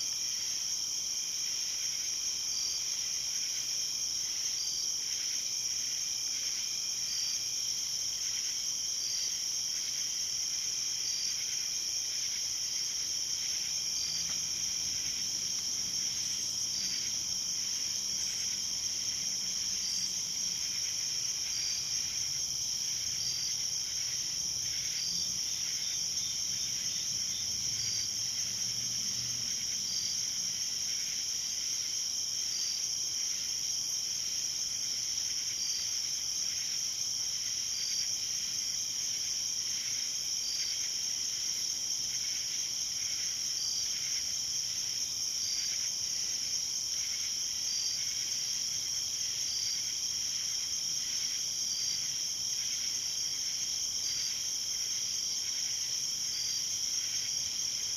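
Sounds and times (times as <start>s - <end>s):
cricket chirp: 0.0s - 57.9s
insects chorus: 0.0s - 57.9s.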